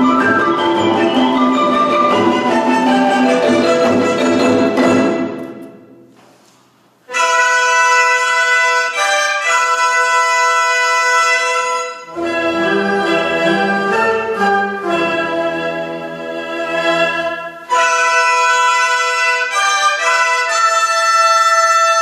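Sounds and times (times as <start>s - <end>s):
orchestra playing held chords: 0.0s - 6.0s, 7.1s - 22.0s.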